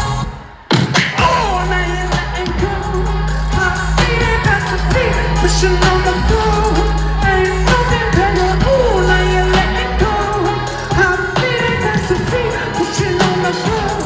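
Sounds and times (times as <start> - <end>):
lead vocal singing: 0.0 - 14.0
drum hits: 0.7 - 14.0
deep synth bass: 1.2 - 14.0.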